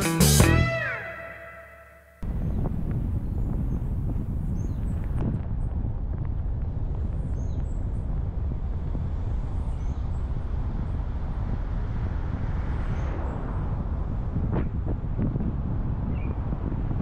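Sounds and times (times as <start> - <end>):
vehicle engine and tyres rumbling: 2.2 - 17.0
wind on microphone: 2.2 - 17.0.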